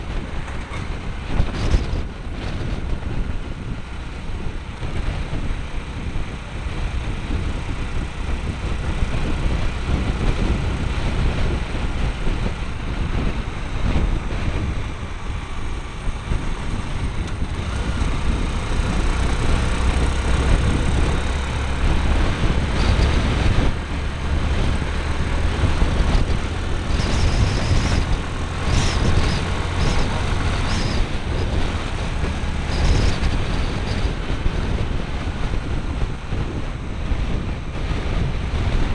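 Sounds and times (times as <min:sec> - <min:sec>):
motorbike engine: 0:00.0 - 0:38.9
wind and road noise: 0:00.0 - 0:38.9.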